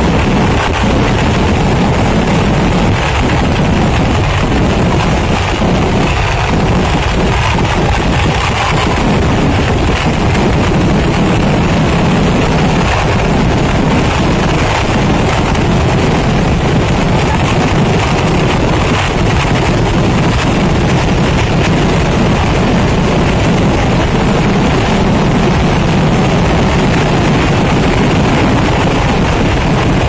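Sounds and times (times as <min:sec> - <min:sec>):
rapid firework explosions: 0:00.0 - 0:30.0.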